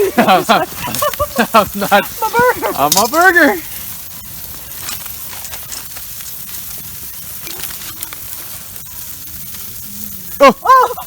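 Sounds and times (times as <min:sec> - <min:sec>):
campfire crackling: 0:00.0 - 0:11.0
food sizzling on a grill: 0:00.0 - 0:11.0.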